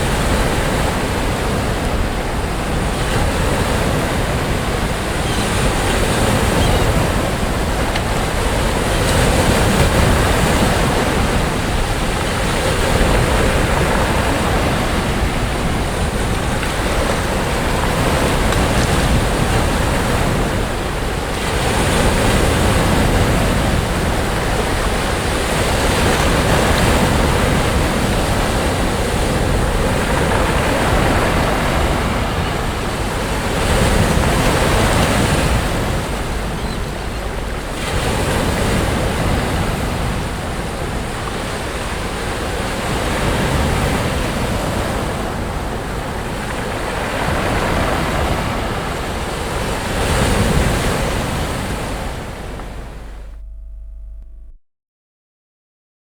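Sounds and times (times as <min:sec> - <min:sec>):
sea waves breaking on beach: 0:00.0 - 0:53.3.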